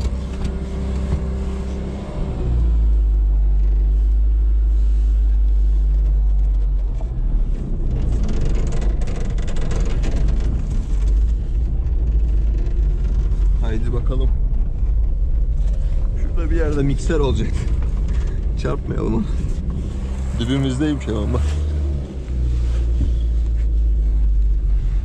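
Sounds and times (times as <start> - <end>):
car engine rumbling: 0.0 - 25.0
road and tyre noise: 0.0 - 25.0.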